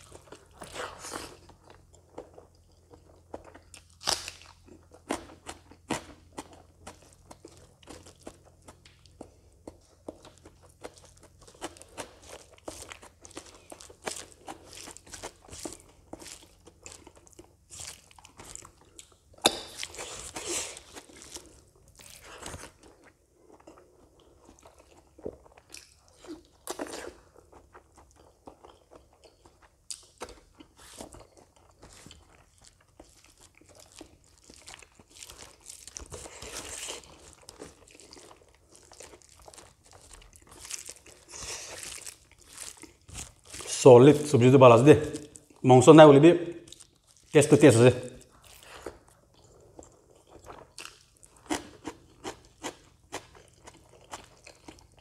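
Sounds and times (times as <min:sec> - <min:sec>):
chewing and lip smacks: 0:00.0 - 0:43.7, 0:48.2 - 0:55.0.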